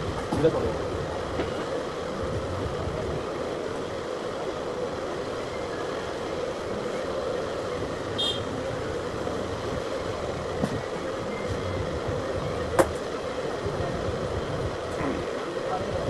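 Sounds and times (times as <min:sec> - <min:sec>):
mechanical hum and rumble: 0:00.0 - 0:16.0.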